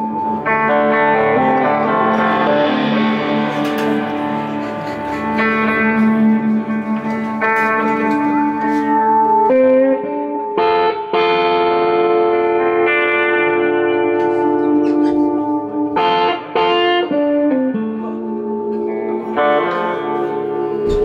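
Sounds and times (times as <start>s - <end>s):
electric guitar ringing notes: 0.0s - 21.0s
live blues band playing: 0.0s - 21.0s.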